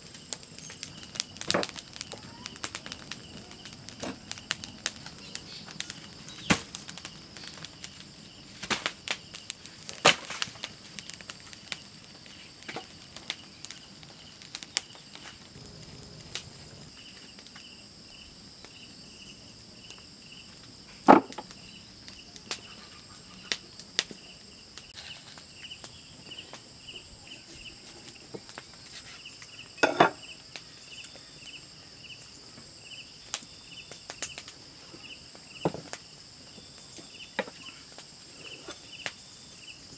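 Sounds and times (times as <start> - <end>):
high insect drone: 0.0 - 39.9
insect chirping: 0.0 - 39.9.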